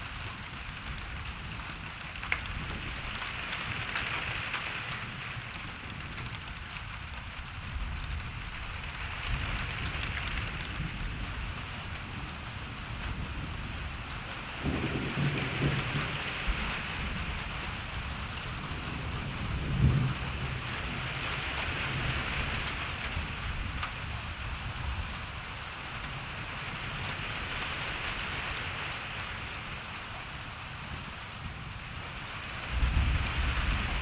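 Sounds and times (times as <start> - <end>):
thunder rumbling: 0.0 - 30.0, 31.7 - 34.0
steady rain falling: 0.0 - 34.0.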